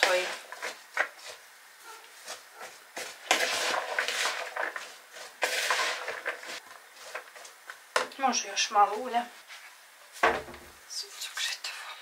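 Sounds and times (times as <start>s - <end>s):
food rustling and scraping in bowl: 0.0s - 10.4s.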